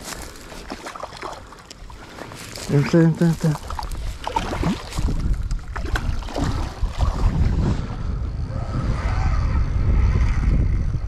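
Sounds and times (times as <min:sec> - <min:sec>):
moving water: 0:00.0 - 0:11.0
wind rumbling on microphone: 0:01.8 - 0:11.0.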